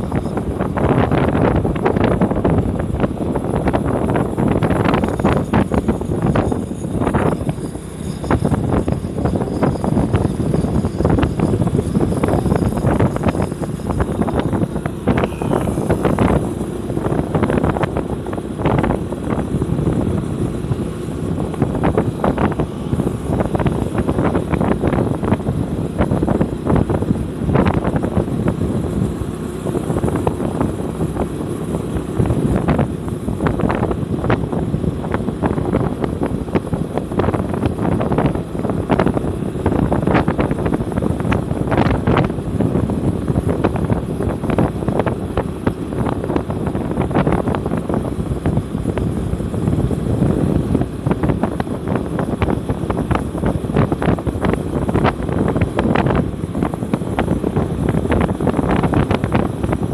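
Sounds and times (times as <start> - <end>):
vehicle driving rumble: 0.0 - 59.9
wind buffeting microphone: 0.0 - 59.9.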